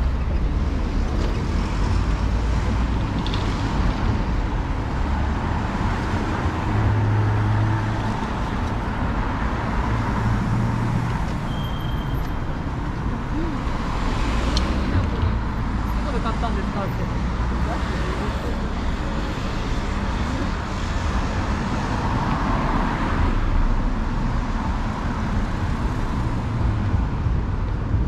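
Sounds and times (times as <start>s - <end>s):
street traffic passing: 0.0s - 28.0s.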